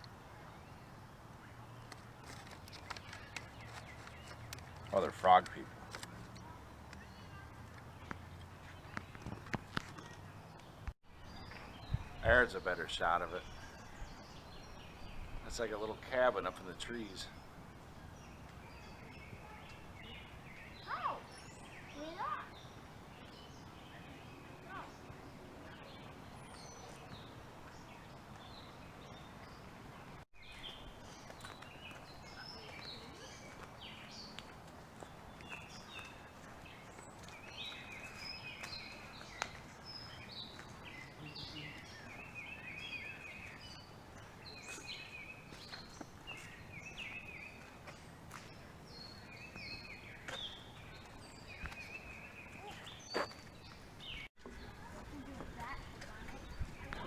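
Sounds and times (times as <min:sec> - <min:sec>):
birds chirping and trilling: 0:00.0 - 0:57.0
outdoor background hiss: 0:00.0 - 0:57.0.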